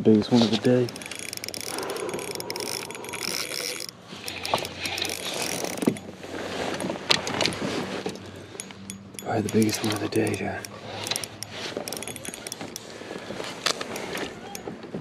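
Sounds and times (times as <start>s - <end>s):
fishing reel gears whirring: 0.3s - 14.8s
reel clicks: 0.3s - 15.0s.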